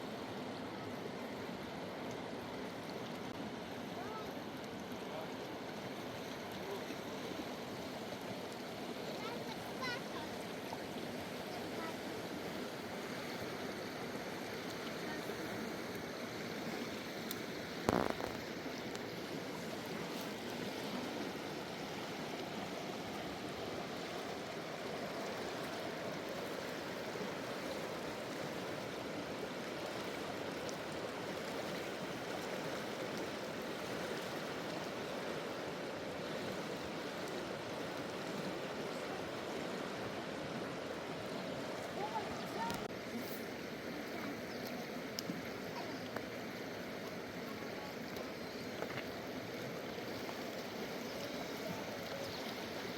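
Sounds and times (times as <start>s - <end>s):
river rushing over rocks: 0.0s - 52.9s.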